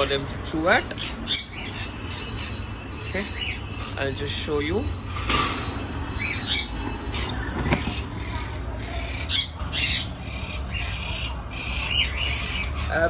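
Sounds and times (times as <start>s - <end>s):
parrots squawking: 0.0s - 4.7s, 5.6s - 13.0s.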